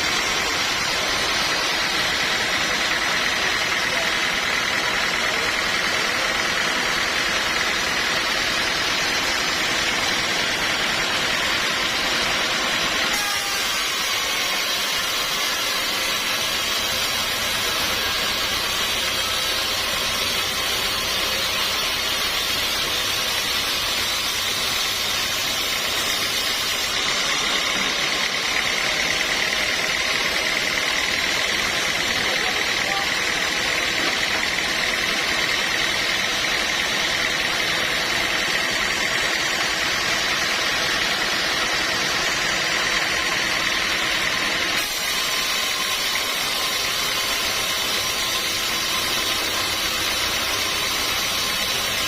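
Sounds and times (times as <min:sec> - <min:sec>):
sawmill machinery with high whine: 0:00.0 - 0:52.0.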